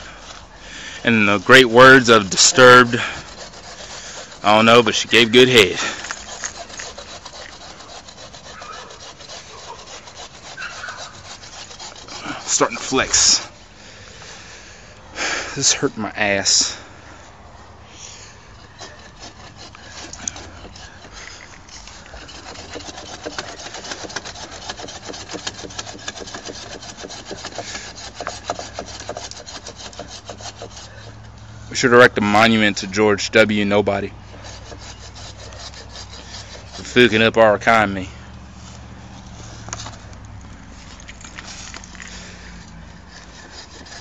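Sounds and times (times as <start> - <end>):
hand saw cutting wood: 0.0 - 13.7, 18.2 - 44.0.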